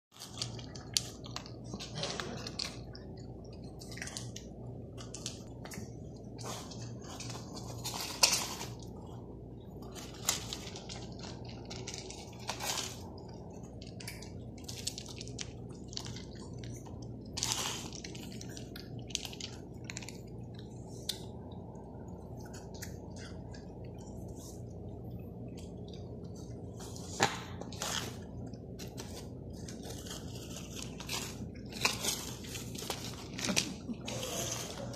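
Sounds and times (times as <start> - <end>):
cats chewing: 0.1 - 34.9
steady low hum: 0.1 - 34.9.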